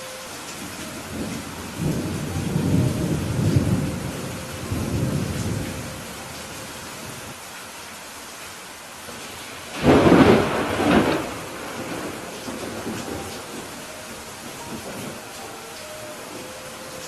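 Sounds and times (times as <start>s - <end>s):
thunder rumbling: 0.0s - 7.4s, 9.7s - 17.0s
steady rain: 0.0s - 17.0s.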